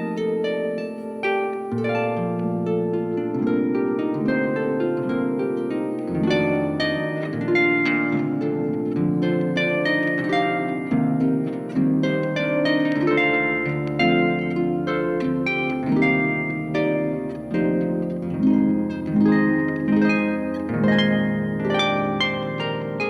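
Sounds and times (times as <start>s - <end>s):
harp plucked notes: 0.0s - 23.0s.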